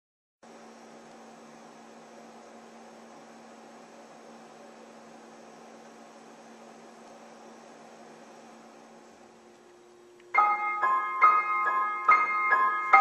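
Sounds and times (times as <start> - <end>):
faint electrical hum: 0.4 - 13.0.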